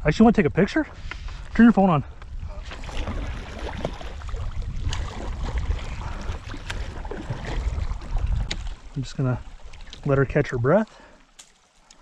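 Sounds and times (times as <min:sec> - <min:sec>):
wind on microphone: 0:00.0 - 0:10.1
water splashing against canoe: 0:02.2 - 0:12.0.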